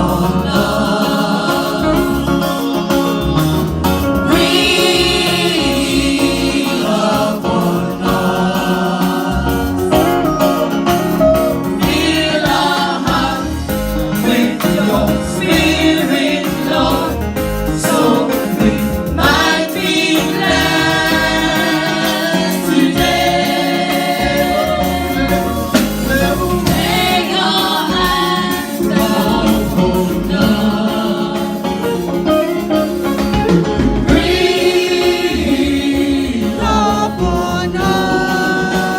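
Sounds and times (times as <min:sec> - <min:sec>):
choir and congregation singing hymn: 0:00.0 - 0:38.9
instrumental accompaniment: 0:00.0 - 0:38.9.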